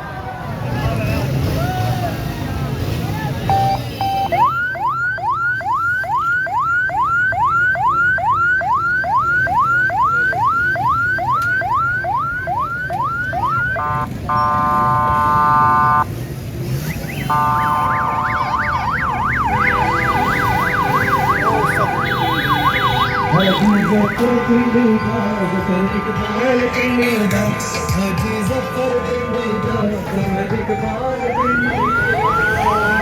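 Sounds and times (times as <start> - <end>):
electronic siren: 3.5 - 16.0, 16.9 - 33.0.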